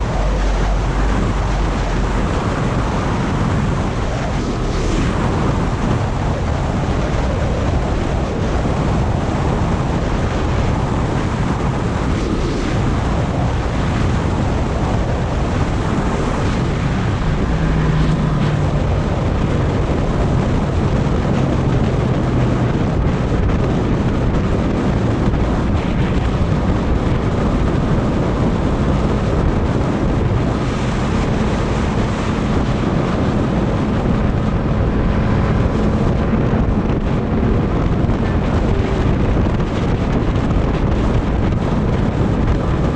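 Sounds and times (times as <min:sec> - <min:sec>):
wind noise on microphone: 0:00.0 - 0:42.9.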